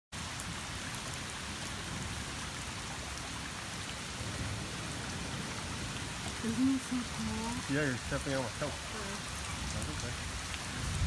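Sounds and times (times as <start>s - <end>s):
heavy rain on a street: 0.1s - 11.0s
raindrops ticking: 0.2s - 11.0s.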